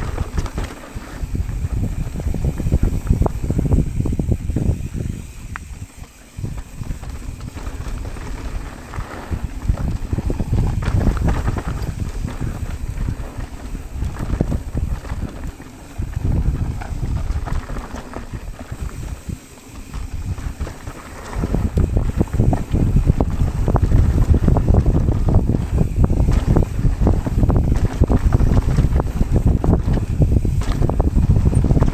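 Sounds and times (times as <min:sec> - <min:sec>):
bike rattling over bumps: 0:00.0 - 0:31.9
tyre rumble: 0:00.0 - 0:31.9
wind buffeting microphone: 0:00.0 - 0:31.9.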